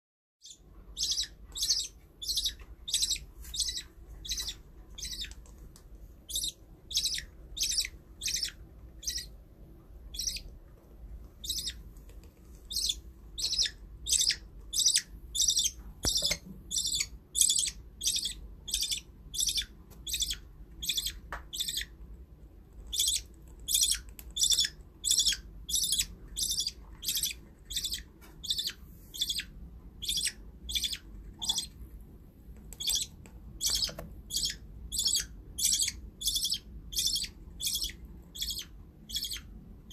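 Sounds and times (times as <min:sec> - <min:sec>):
bird chick peeping: 0:00.4 - 0:10.6, 0:11.3 - 0:22.0, 0:22.7 - 0:31.9, 0:32.5 - 0:39.9.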